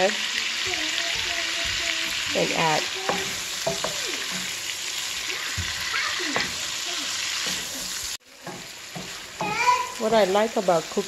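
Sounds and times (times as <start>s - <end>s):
shrimp sizzling in hot oil: 0.0s - 11.0s
wooden spoon stirring: 0.9s - 11.0s.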